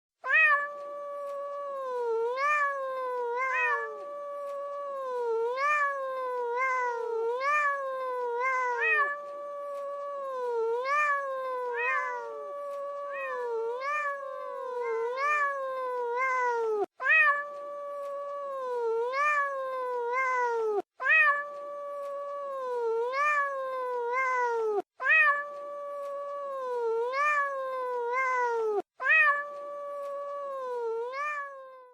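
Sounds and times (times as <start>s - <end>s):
cat yowling: 0.2s - 31.9s.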